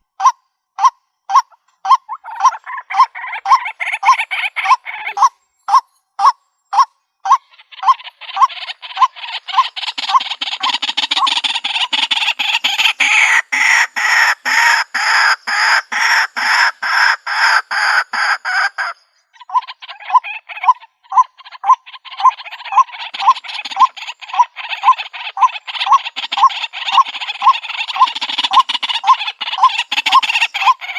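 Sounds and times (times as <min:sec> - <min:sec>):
bird calling repeated notes: 0:00.0 - 0:30.9.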